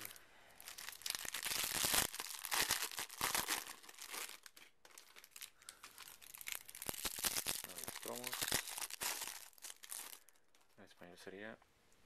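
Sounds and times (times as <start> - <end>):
plastic wrapper crinkling and tearing: 0.0 - 10.8.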